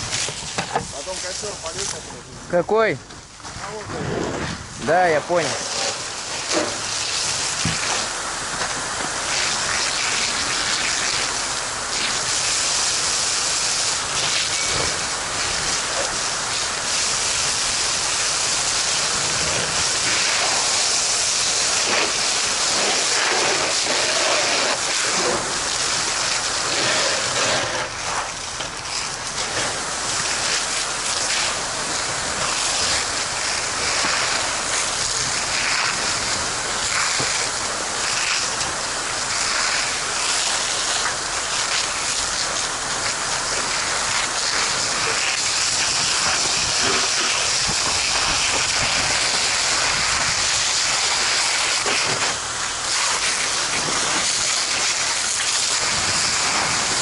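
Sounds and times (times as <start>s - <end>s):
fire hose spraying water: 0.0s - 57.0s.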